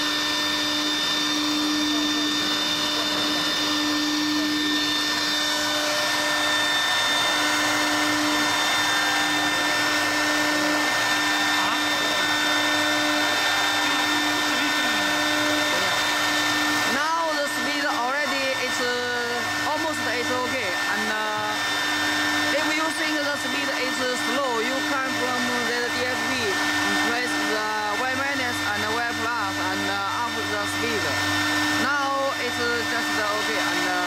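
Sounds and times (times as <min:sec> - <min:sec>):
milling machine spindle whining: 0:00.0 - 0:34.0.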